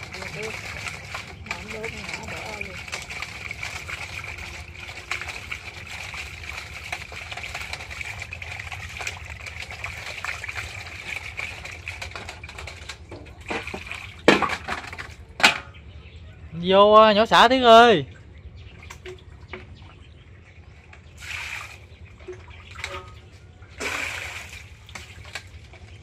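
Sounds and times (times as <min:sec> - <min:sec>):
water splashing and trickling: 0:00.0 - 0:16.1, 0:16.9 - 0:26.0.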